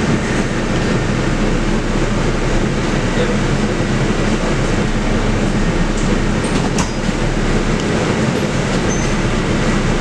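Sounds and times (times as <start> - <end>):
bus cabin rumble: 0.0 - 10.0
diesel engine at low revs: 0.0 - 10.0
road noise: 0.0 - 10.0.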